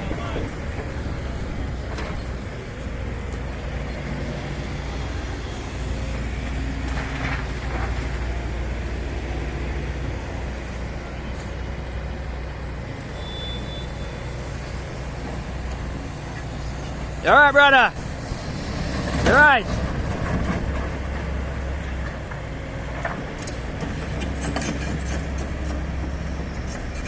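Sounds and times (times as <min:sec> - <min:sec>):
heavy vehicle engine humming: 0:00.0 - 0:27.0
street traffic: 0:00.0 - 0:27.0.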